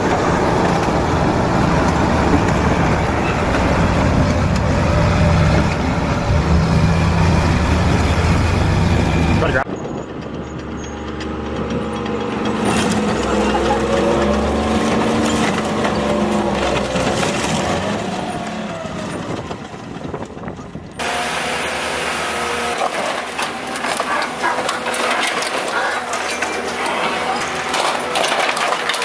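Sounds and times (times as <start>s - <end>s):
machinery clattering: 0.0s - 29.0s
machinery engine whining: 0.0s - 29.0s.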